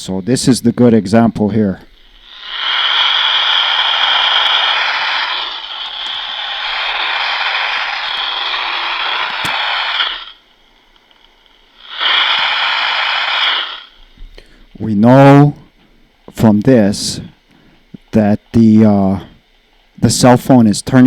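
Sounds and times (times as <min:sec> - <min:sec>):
harsh buzzing interference hiss: 0:00.0 - 0:21.0.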